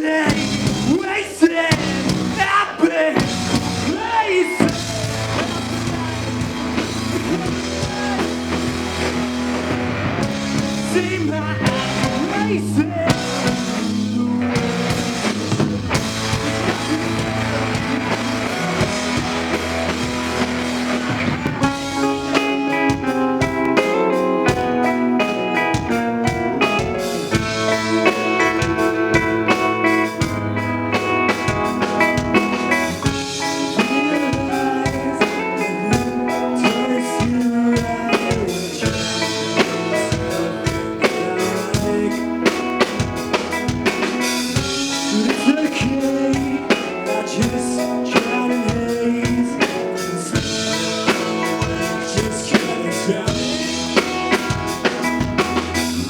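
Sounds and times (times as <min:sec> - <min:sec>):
drum kit beat: 0:00.0 - 0:56.0
live band playing instrumental: 0:00.0 - 0:56.0.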